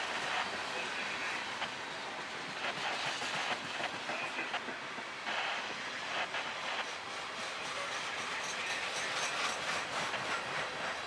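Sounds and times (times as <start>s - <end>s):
freight train cars rolling past: 0.0s - 11.0s.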